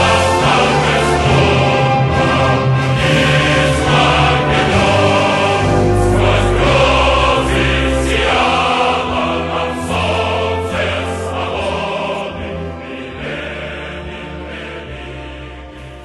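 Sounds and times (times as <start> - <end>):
choir singing over sustained chords: 0.0 - 16.0.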